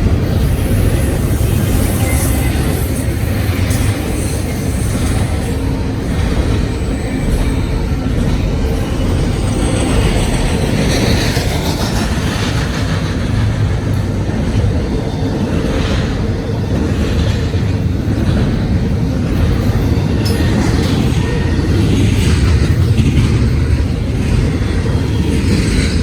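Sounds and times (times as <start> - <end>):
freight train cars rolling past: 0.0 - 26.0.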